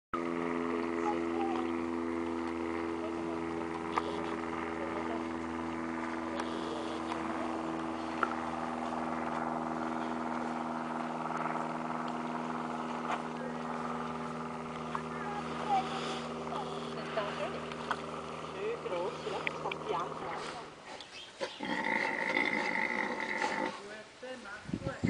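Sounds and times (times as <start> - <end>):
steady mechanical hum: 0.2 - 25.0.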